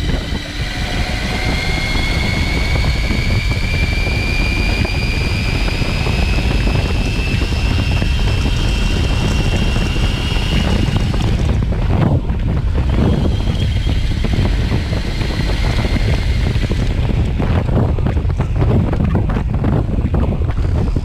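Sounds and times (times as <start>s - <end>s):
electric motor whining: 0.0s - 21.0s
wind rushing over microphone: 0.0s - 21.0s.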